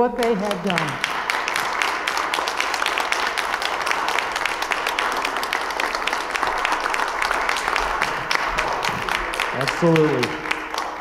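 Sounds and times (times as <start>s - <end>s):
hands clapping close by: 0.0s - 11.0s
small group applauding: 0.0s - 11.0s.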